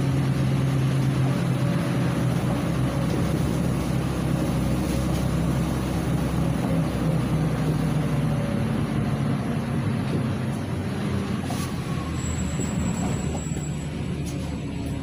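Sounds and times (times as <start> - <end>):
bus engine droning: 0.0 - 15.0
tyre noise on wet road: 0.0 - 15.0.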